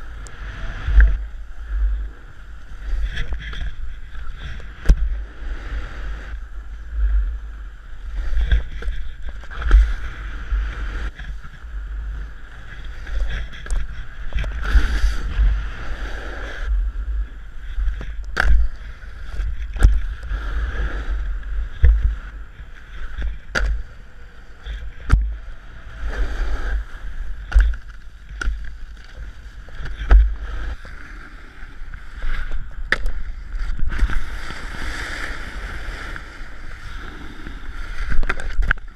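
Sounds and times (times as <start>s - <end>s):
snowboard scraping on snow: 0.0s - 23.8s, 24.7s - 32.6s, 33.2s - 38.2s.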